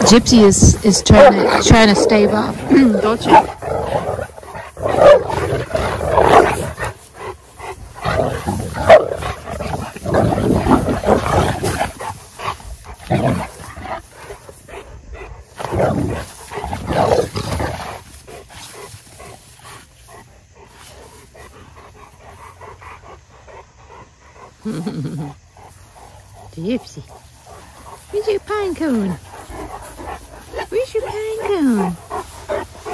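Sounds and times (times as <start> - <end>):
dogs growling: 0.0 - 32.9.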